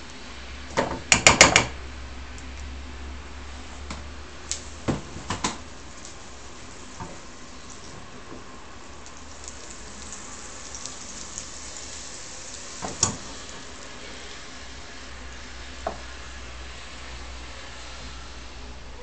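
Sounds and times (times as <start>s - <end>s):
butter sizzling in saucepan: 3.3s - 18.6s.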